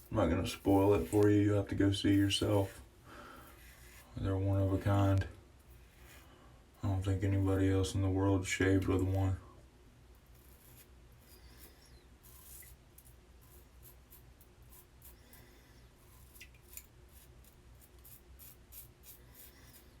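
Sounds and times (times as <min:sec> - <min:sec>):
razor scraping stubble: 0:00.0 - 0:02.8, 0:03.4 - 0:07.4, 0:10.2 - 0:20.0.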